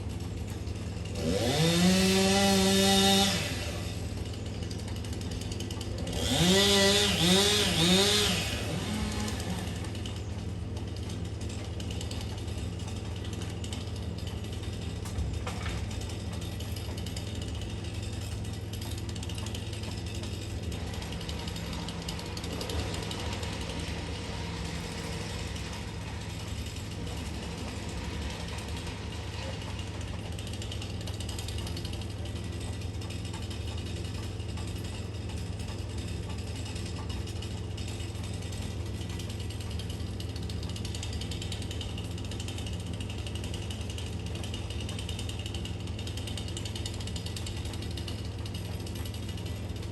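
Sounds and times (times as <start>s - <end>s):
engine humming: 0.0s - 49.9s.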